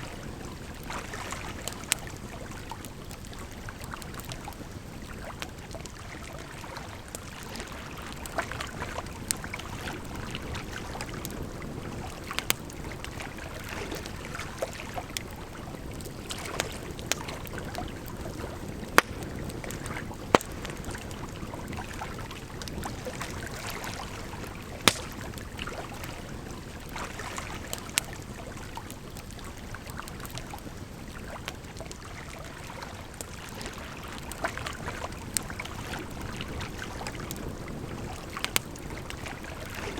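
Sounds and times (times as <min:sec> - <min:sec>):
campfire crackling: 0:00.1 - 0:39.9.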